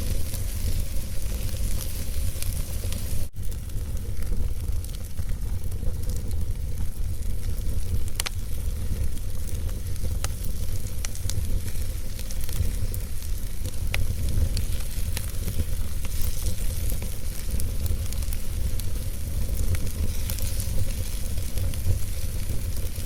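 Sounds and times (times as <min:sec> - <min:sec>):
fire crackling and popping: 0:00.0 - 0:23.0
fireplace flames rumbling: 0:00.0 - 0:23.0.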